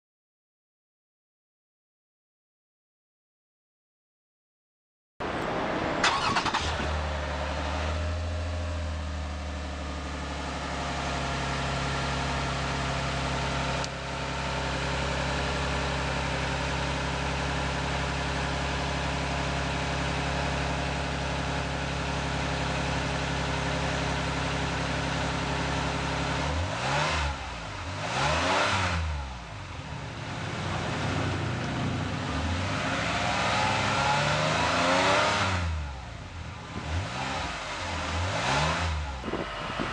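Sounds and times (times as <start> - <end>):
car engine idling and revving: 5.2 - 39.9.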